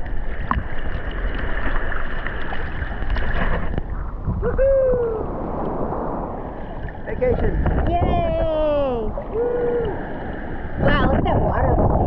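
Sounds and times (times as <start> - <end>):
water sloshing and lapping: 0.0 - 4.5, 5.3 - 12.0.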